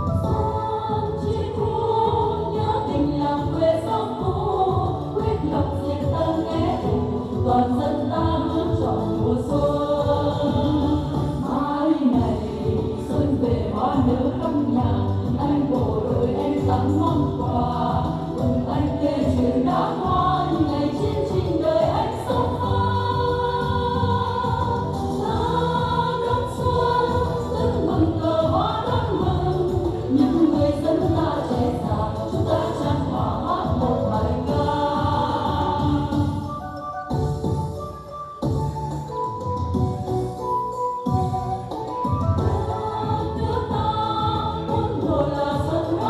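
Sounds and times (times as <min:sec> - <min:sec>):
women singing into microphones: 0:00.0 - 0:36.8, 0:42.4 - 0:46.0
instrumental accompaniment with beat: 0:00.0 - 0:46.0.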